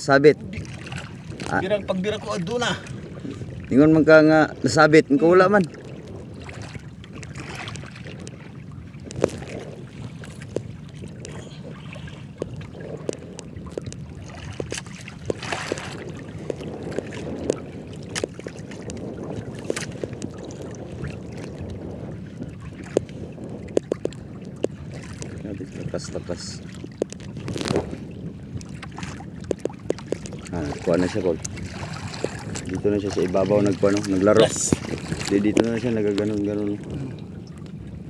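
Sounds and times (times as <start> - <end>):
water sloshing against boat hull: 0.0 - 38.0
wind on microphone: 0.0 - 38.0
knocks and taps on boat: 5.4 - 38.0.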